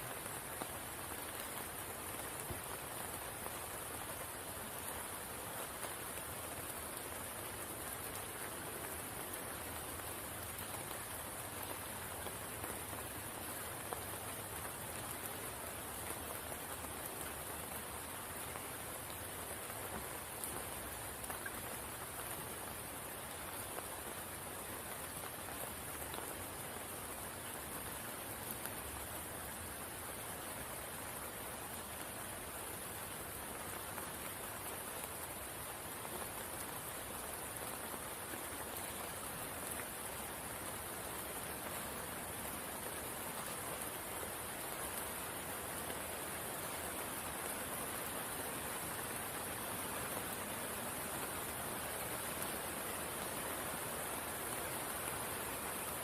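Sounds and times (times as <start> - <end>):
rain falling on pool: 0.0 - 56.0.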